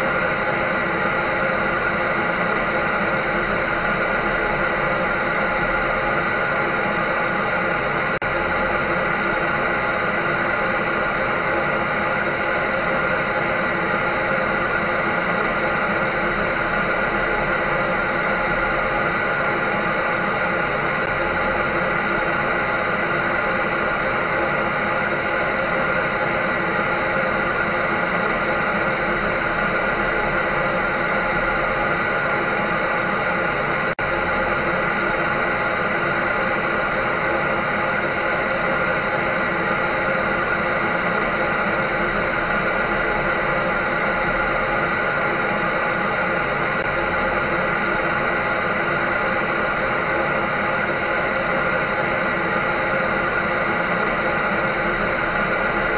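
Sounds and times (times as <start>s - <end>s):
clothes dryer running: 0.0s - 55.9s.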